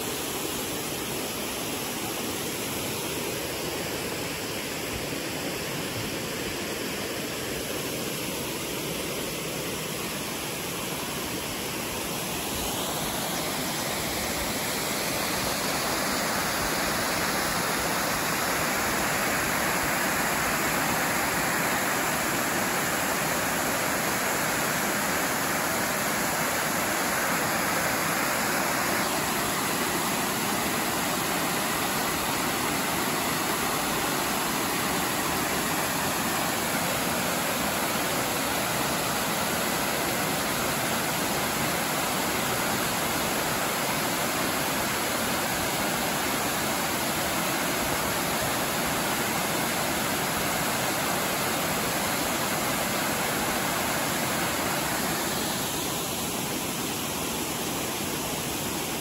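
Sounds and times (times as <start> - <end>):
stream rushing over rocks: 0.0 - 59.0
waterfall cascading into pool: 0.0 - 59.0.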